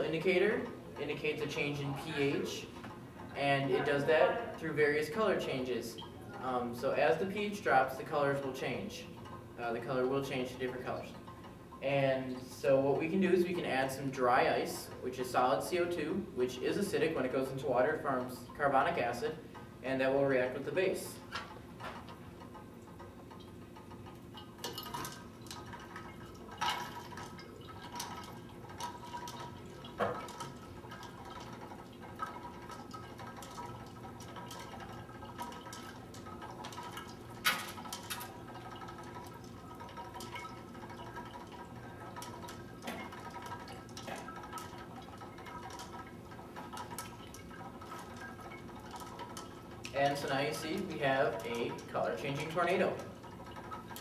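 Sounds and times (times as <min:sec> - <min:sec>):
dry ice bubbling in water: 0:00.0 - 0:54.0
faint steady hum: 0:00.0 - 0:54.0.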